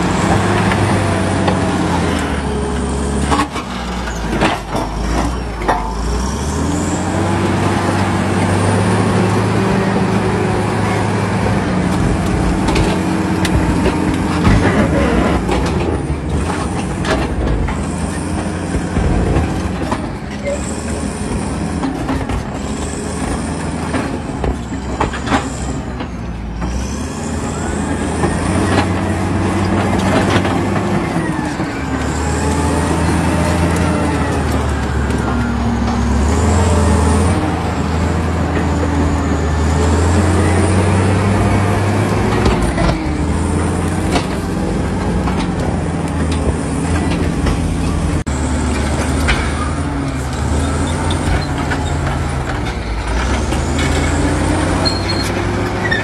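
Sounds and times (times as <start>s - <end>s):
bulldozer diesel engine working: 0.0s - 56.0s
steel tracks clanking: 0.0s - 56.0s.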